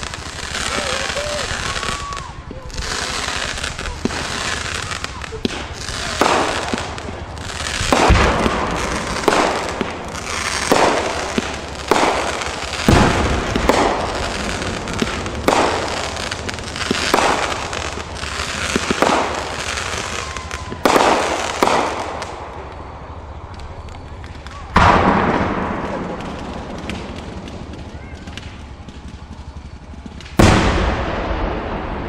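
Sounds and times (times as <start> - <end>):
deep fireworks booms: 0.0 - 32.0
fireworks bangs: 0.0 - 32.0
fireworks crackling: 0.0 - 32.0.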